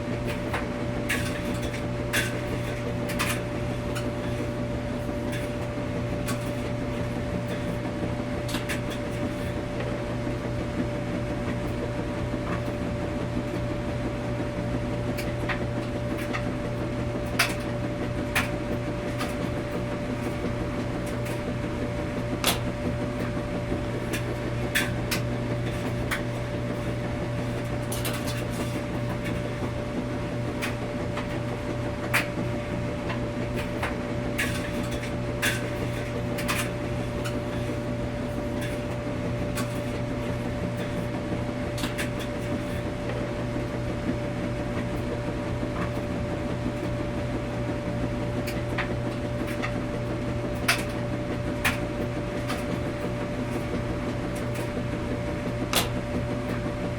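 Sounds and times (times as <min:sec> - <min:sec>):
washing machine humming: 0:00.0 - 0:56.9.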